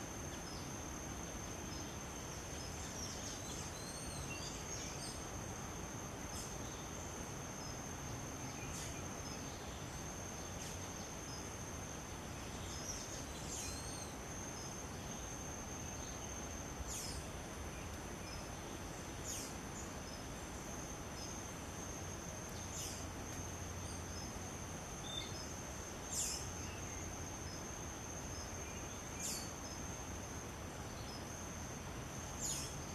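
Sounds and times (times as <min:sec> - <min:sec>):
background hiss: 0:00.0 - 0:32.9
high-pitched insect trill: 0:00.0 - 0:32.9.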